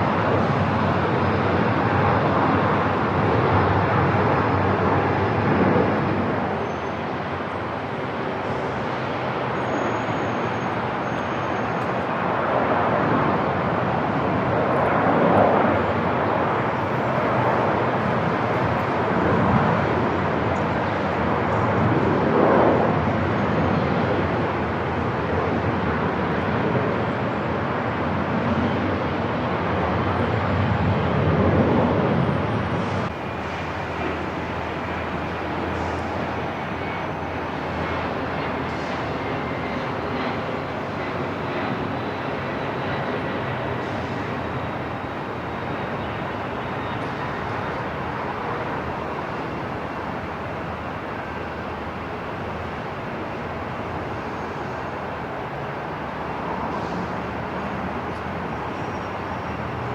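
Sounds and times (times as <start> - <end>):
airport ambience: 0.0 - 59.9.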